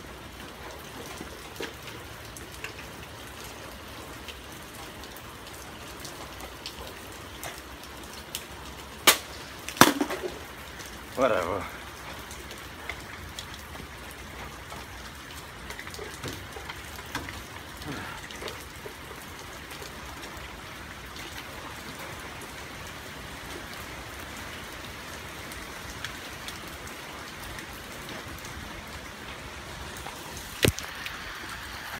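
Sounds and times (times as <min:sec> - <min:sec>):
raindrops ticking on surfaces: 0:00.0 - 0:31.9
steady rain falling: 0:00.0 - 0:31.9.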